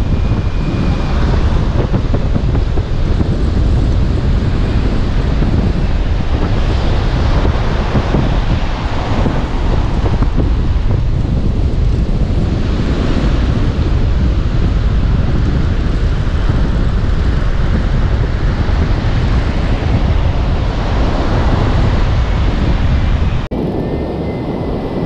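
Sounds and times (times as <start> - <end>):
strong wind buffeting microphone: 0.0 - 25.0
breaking surf: 3.6 - 25.0.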